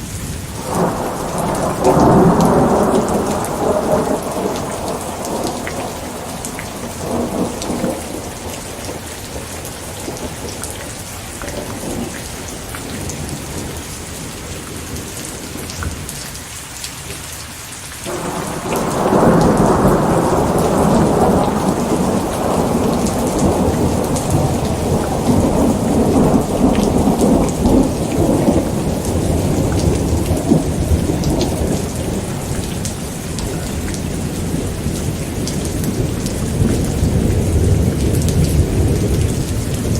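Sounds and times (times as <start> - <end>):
steady rain hissing: 0.0 - 39.9
thunder rumbling: 0.2 - 15.7, 18.1 - 39.9.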